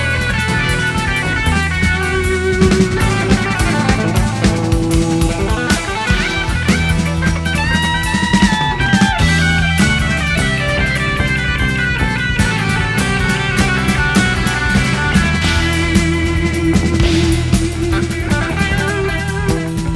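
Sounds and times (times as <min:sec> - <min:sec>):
bass: 0:00.0 - 0:19.9
drum kit: 0:00.0 - 0:19.9
guitar lines: 0:00.0 - 0:19.9.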